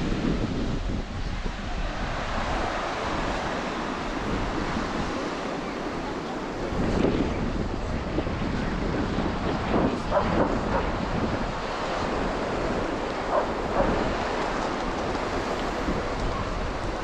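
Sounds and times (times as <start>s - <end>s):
ocean waves breaking on beach: 0.0s - 17.0s
wind buffeting microphone: 0.0s - 17.0s.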